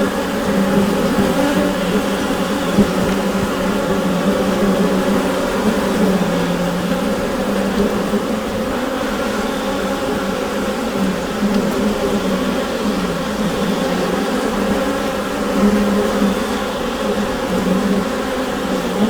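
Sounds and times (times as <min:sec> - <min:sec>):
honeybees humming in hive: 0:00.0 - 0:19.0.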